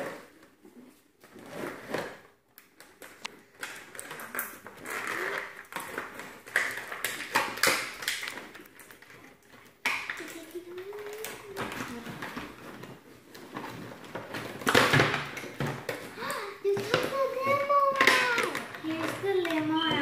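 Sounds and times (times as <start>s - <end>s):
plastic toy and cardboard handled: 0.0s - 20.0s.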